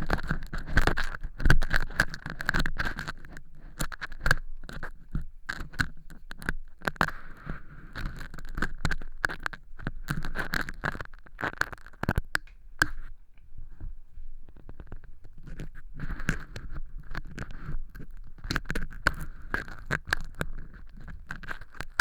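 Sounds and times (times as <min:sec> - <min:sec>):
ear pick scraping crunchy material: 0:00.0 - 0:13.1, 0:14.7 - 0:22.0.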